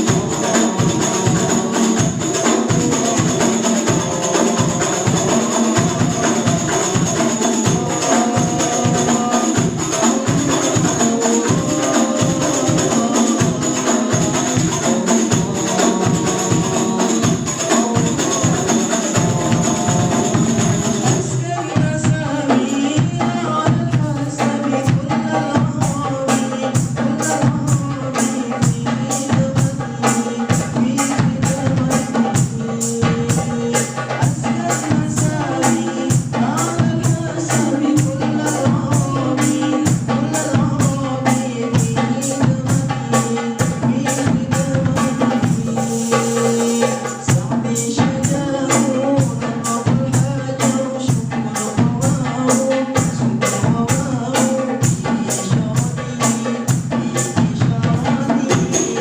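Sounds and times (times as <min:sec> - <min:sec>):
devotional song melody: 0:00.0 - 0:59.0
hand percussion beat: 0:00.0 - 0:59.0.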